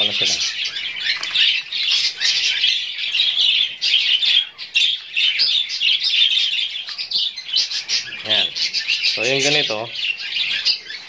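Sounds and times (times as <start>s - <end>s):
birds chattering and chirping: 0.0s - 11.0s.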